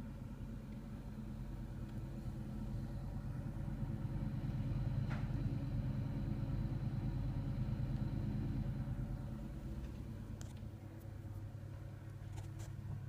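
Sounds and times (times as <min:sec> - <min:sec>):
boiler low mechanical hum: 0:00.0 - 0:13.0.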